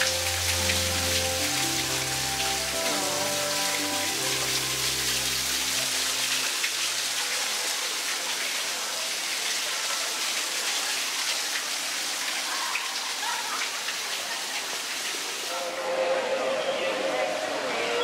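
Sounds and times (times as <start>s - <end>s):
waterfall splashing into pond: 0.0s - 15.7s.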